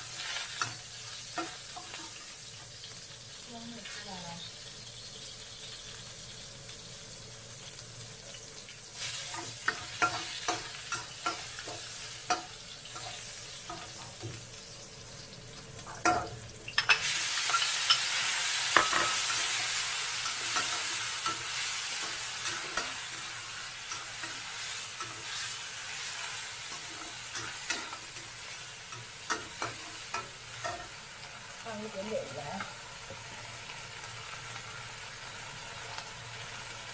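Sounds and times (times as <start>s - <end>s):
food sizzling in a wok: 0.0s - 36.9s.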